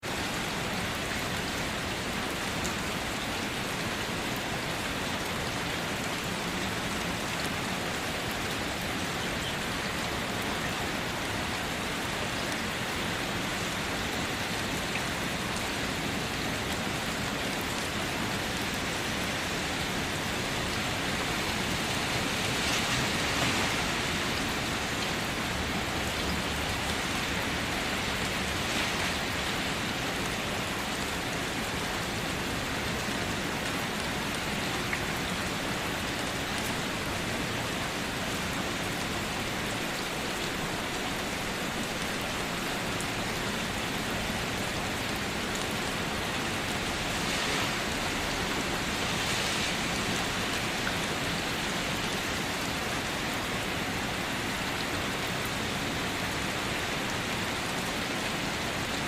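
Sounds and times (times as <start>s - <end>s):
steady rain falling: 0.0s - 59.0s
raindrops pattering on surfaces: 0.1s - 59.0s.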